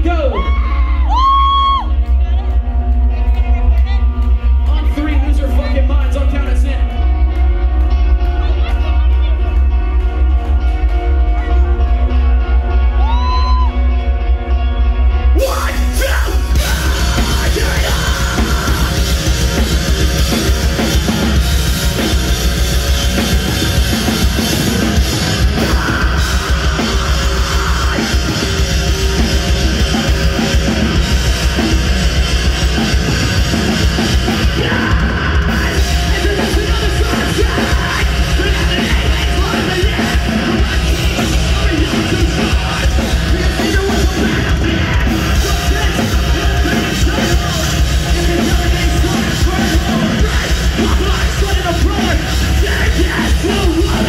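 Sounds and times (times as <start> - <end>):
live heavy rock band playing: 0.0 - 54.0.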